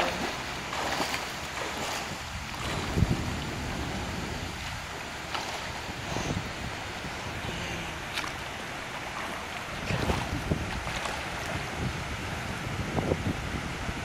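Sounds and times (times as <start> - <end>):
pool water splashing: 0.0 - 12.2
wind noise on microphone: 0.0 - 14.0.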